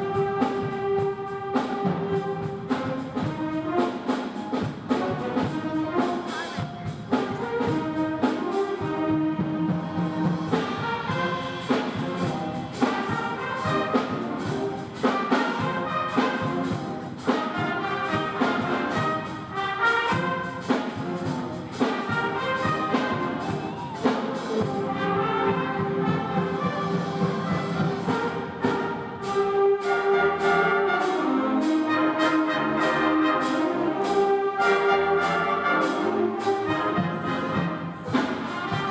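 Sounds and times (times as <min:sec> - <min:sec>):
percussion beat: 0:00.0 - 0:30.7, 0:34.0 - 0:38.9
brass instruments: 0:00.0 - 0:38.9
concert band playing: 0:00.0 - 0:38.9.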